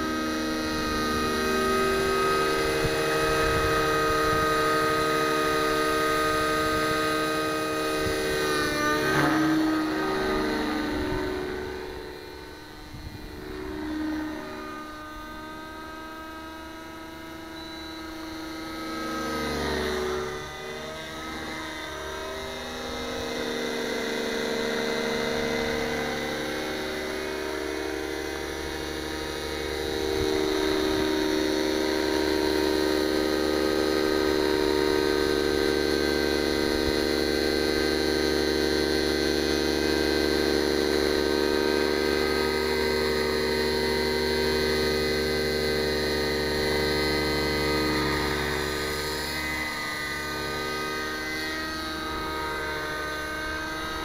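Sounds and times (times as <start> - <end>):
model helicopter engine whining: 0.0 - 54.0.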